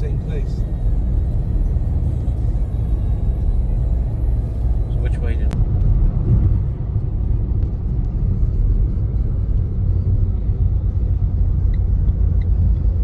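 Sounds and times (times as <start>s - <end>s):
car road rumble inside cabin: 0.0s - 13.0s.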